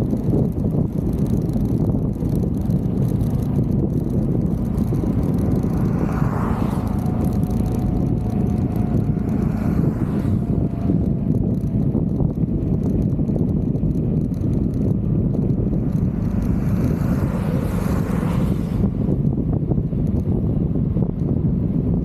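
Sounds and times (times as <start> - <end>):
scooter engine running: 0.0 - 21.8
wind rushing over microphone: 0.0 - 22.0.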